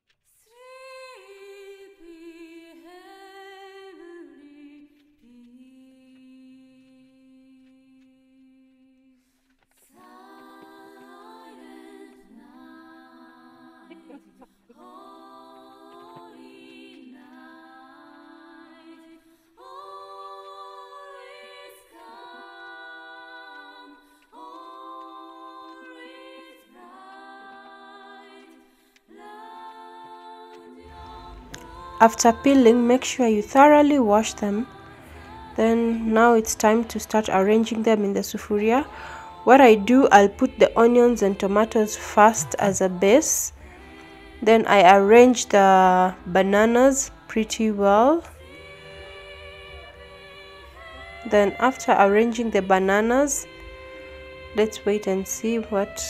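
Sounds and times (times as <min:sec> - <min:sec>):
a cappella voices singing: 0:00.4 - 0:56.0.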